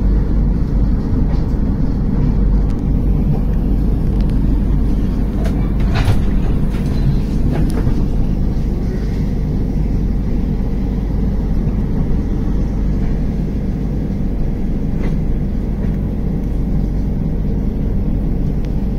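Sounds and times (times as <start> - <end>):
train wheels rumbling on track: 0.0 - 18.9.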